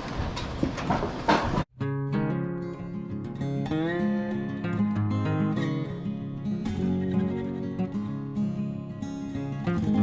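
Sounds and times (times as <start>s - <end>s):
strummed acoustic guitar music: 1.7s - 10.0s.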